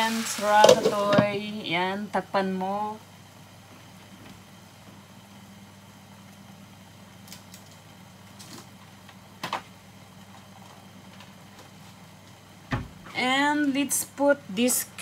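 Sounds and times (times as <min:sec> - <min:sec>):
low steady cooking hum: 0:00.0 - 0:15.0.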